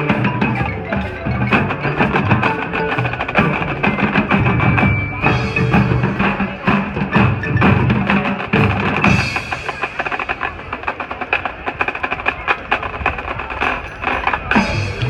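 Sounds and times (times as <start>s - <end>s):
rapid drum strokes: 0.0s - 15.0s.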